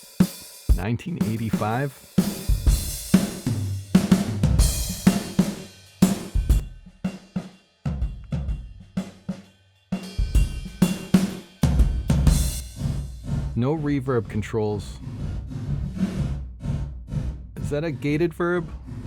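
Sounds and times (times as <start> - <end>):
drum kit groove: 0.0 - 19.0.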